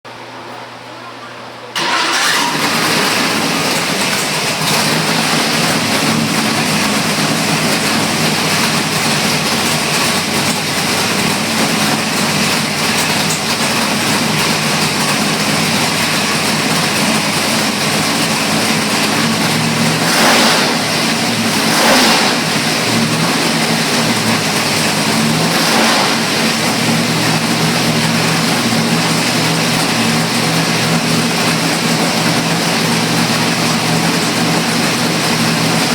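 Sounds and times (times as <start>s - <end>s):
racing engine running loud: 1.8s - 35.9s.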